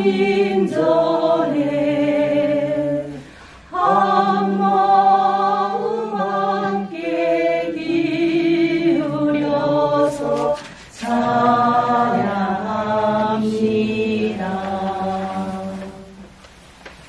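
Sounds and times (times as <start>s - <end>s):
congregation chanting in unison: 0.0s - 16.3s.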